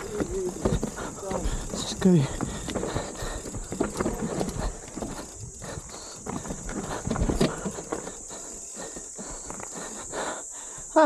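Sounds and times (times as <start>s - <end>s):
mountain bike knocking and rattling: 0.0s - 10.2s.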